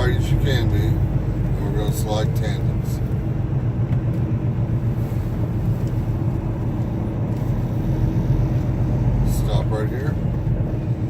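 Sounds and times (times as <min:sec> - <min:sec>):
truck engine drone from cab: 0:00.0 - 0:11.0.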